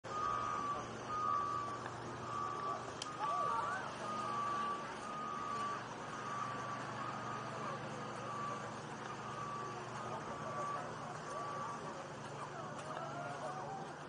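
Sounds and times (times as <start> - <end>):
electronic beeping: 0.0 - 12.5
outdoor background noise: 0.0 - 14.0.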